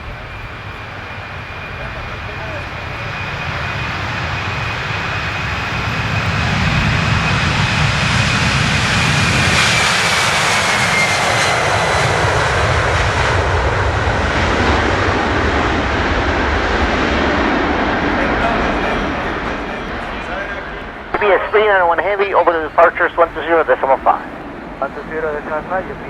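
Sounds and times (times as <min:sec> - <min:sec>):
high jet fan whine: 0:00.0 - 0:26.0
jet engines roaring: 0:00.0 - 0:26.0.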